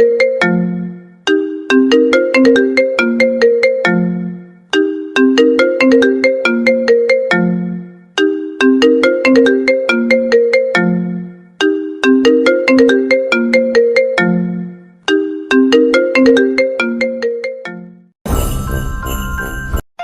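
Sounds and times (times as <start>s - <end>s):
smartphone ringtone melody: 0.0s - 19.8s.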